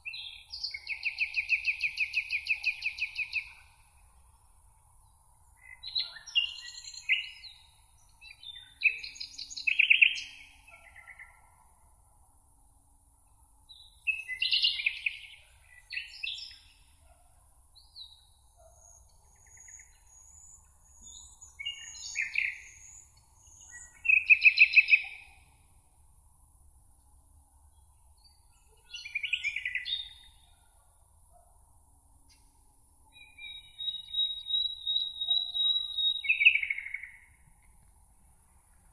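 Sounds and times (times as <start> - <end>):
songbirds singing: 0.0 - 4.0, 4.9 - 11.6, 13.7 - 25.7, 27.7 - 31.4, 32.2 - 37.9.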